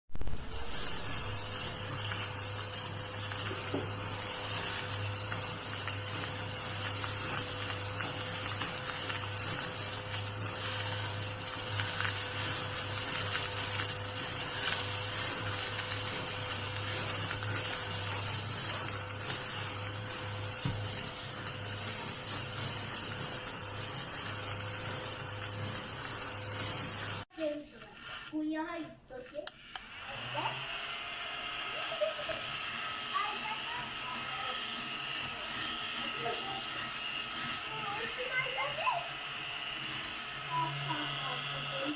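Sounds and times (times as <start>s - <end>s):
small vacuum cleaner whining: 0.1s - 41.9s.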